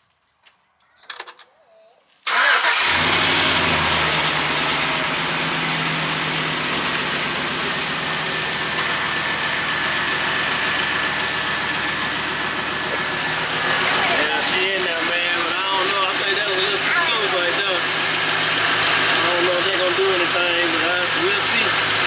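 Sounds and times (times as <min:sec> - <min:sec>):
car engine idling: 0:02.3 - 0:22.0.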